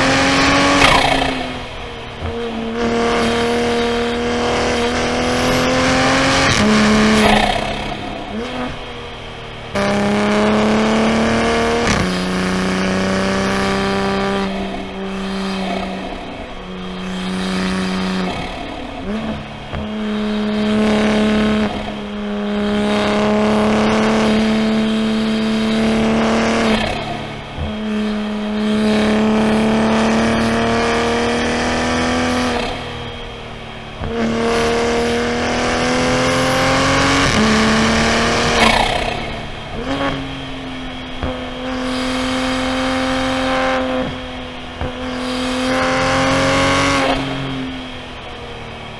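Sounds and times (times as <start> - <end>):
turbocharged car engine revving: 0.0 - 48.9.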